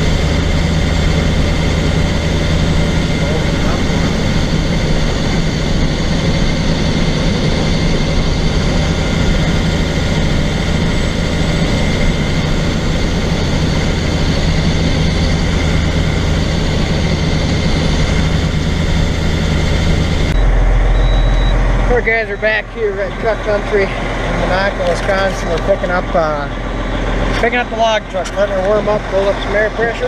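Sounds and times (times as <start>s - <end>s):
deep low rumble: 0.0s - 30.0s
road noise: 0.0s - 30.0s
vehicle engine hum: 0.0s - 30.0s.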